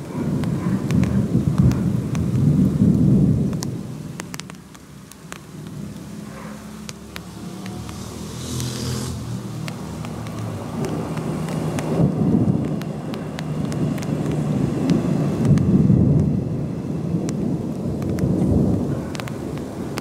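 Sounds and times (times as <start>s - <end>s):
thunder rumbling: 0.0s - 20.0s.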